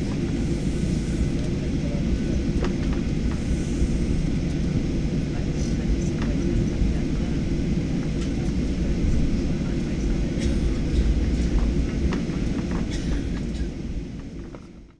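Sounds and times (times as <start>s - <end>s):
aircraft engine rumble at idle: 0.0s - 14.9s.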